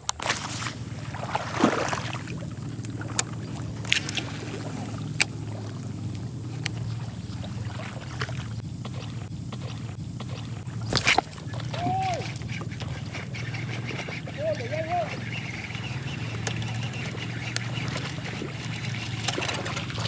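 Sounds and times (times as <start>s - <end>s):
fish splashing in water: 0.0s - 20.0s
sharp clicks: 0.0s - 20.0s
steady low hum: 0.0s - 20.0s.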